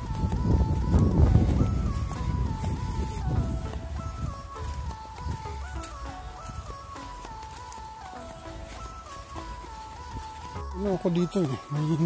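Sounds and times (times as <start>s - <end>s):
simple melody of held notes: 0.0s - 12.0s.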